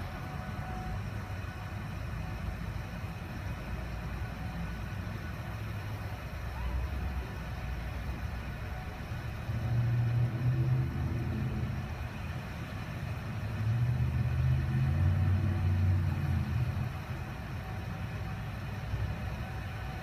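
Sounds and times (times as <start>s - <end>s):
running floodwater: 0.0s - 20.0s
vehicle engines running: 0.0s - 20.0s.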